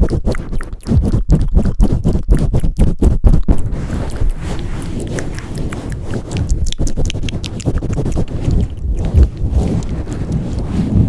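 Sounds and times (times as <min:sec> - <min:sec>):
hands rubbing microphone: 0:00.0 - 0:11.0.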